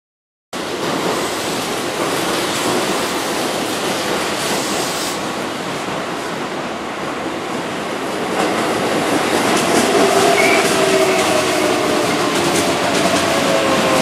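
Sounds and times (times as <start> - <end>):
train wheels on rails: 0.6 - 14.0.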